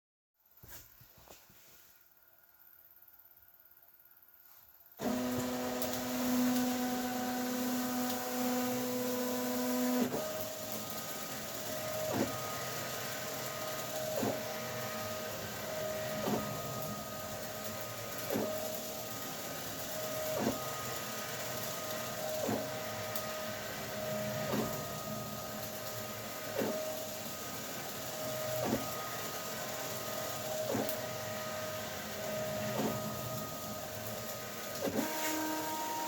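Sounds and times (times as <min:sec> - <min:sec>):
stepper motors whining: 0:05.0 - 0:36.0.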